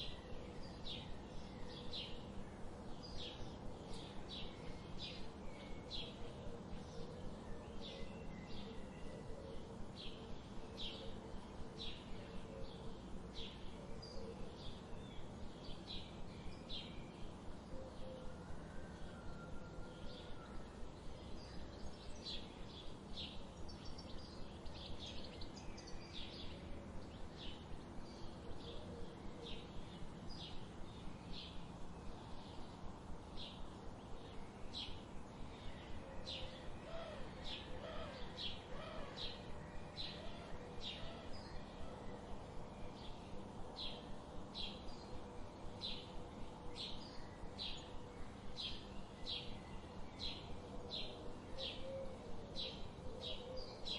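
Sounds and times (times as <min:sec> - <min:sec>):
soft background hiss: 0:00.0 - 0:53.9.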